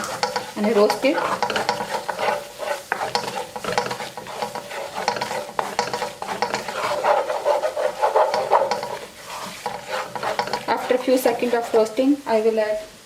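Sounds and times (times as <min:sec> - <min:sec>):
spatula scraping a pan: 0:00.0 - 0:12.4
light sizzle: 0:00.0 - 0:13.0.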